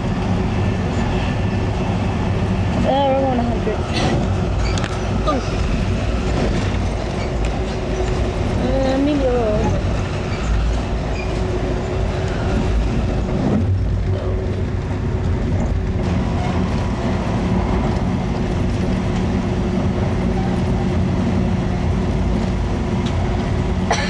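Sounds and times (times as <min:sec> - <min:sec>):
constant hum: 0:00.0 - 0:24.0
train wheels rumbling on rail: 0:00.0 - 0:24.0.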